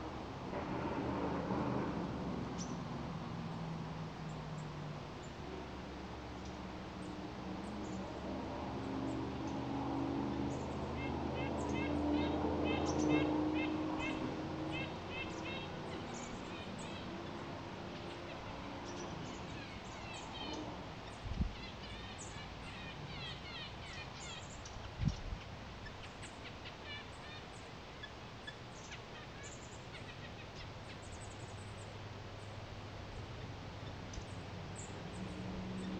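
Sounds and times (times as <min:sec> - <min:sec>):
small birds chirping: 0:04.3 - 0:35.9.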